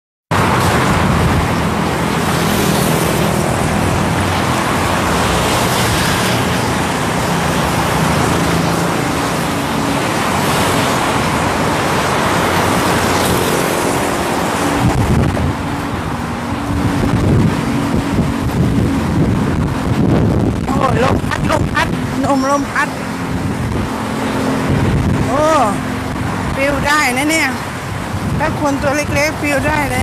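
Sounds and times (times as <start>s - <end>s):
strong wind on microphone: 0.3s - 30.0s.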